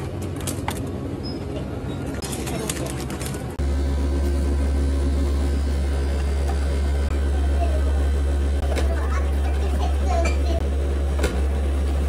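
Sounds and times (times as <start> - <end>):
drink dispenser machinery humming: 0.0 - 12.0.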